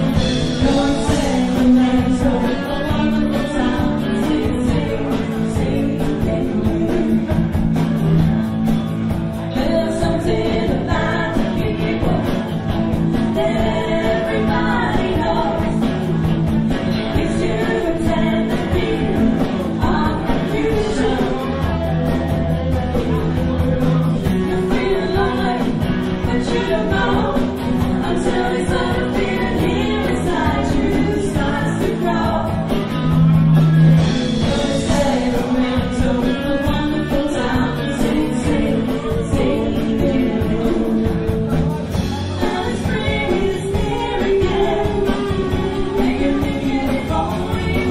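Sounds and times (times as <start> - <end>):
women singing lead: 0.0 - 8.5, 9.4 - 47.9
pop-rock band playing: 0.0 - 47.9.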